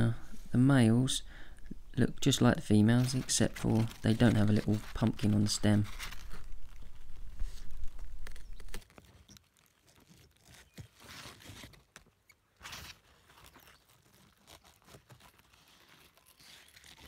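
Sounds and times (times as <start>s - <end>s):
rustling and crackling of leaves: 2.2s - 17.0s.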